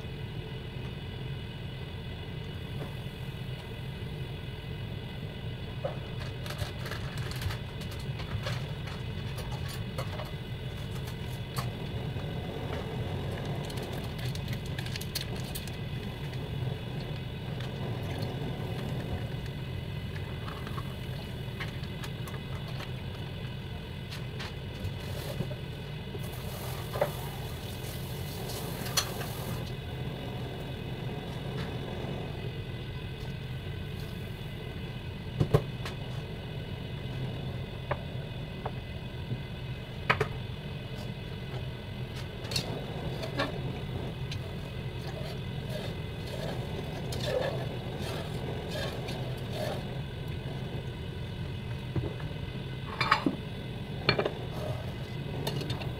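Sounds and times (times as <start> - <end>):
kitchen appliance humming: 0.0 - 55.9.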